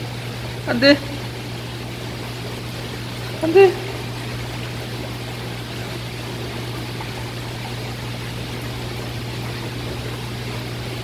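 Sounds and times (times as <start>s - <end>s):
pump humming: 0.0s - 11.0s
water circulating in aquarium: 0.0s - 11.0s.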